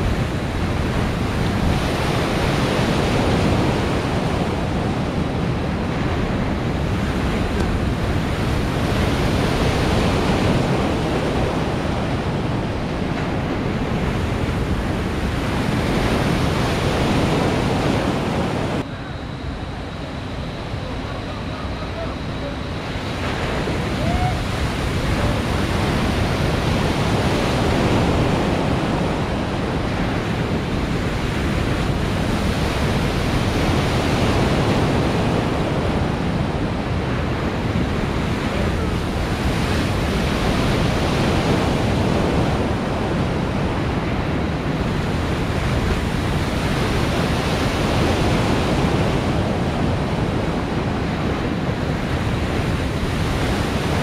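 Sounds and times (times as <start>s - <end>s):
surf waves breaking: 0.0s - 54.0s
wind noise on microphone: 0.0s - 54.0s.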